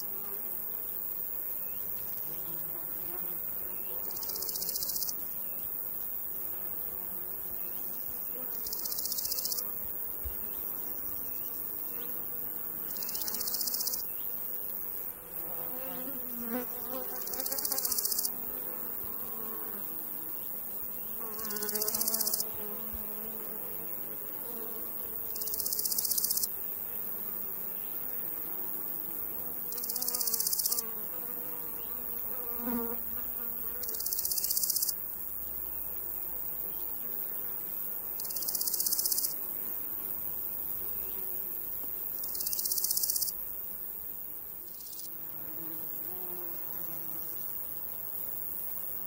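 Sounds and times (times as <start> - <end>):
flies buzzing: 0.0 - 49.0
grasshopper stridulating: 4.1 - 49.0.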